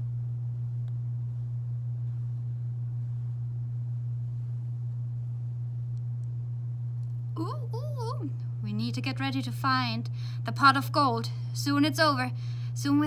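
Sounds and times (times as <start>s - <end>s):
steady low-pitched hum: 0.0s - 13.0s.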